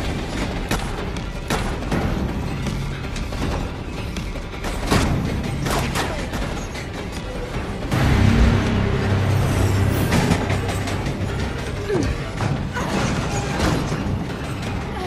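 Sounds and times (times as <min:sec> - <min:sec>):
film score music: 0:00.0 - 0:15.0.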